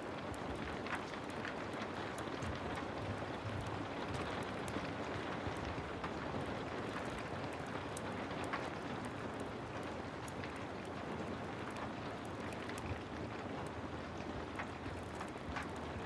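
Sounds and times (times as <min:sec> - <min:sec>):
heavy rain falling: 0:00.0 - 0:16.0
wood fire crackling: 0:00.0 - 0:16.0.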